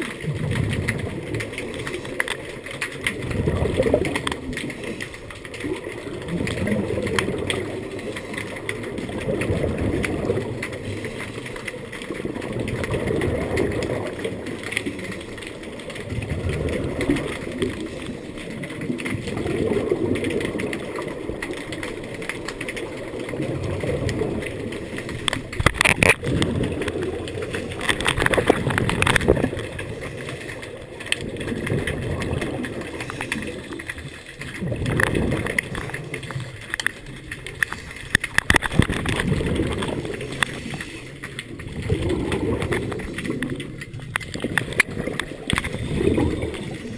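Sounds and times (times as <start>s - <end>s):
sharp clicks: 0.0s - 46.9s.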